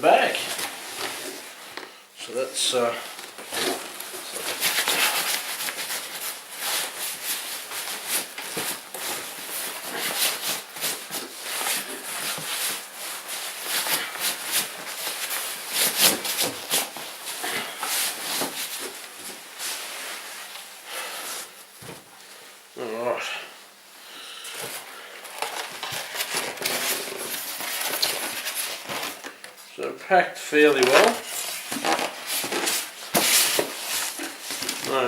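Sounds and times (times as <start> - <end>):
packaging rustling and crinkling: 0.1 - 1.9, 3.0 - 22.3, 24.6 - 29.6, 30.6 - 35.0.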